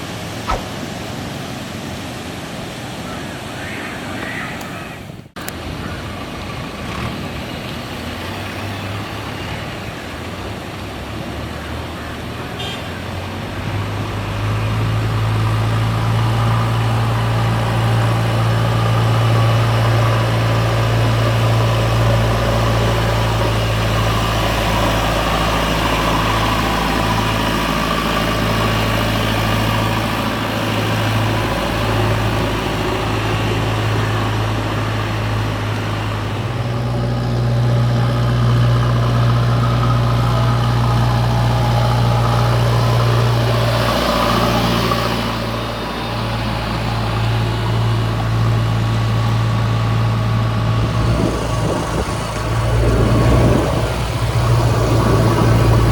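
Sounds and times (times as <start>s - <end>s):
diesel engine running: 5.3s - 55.9s.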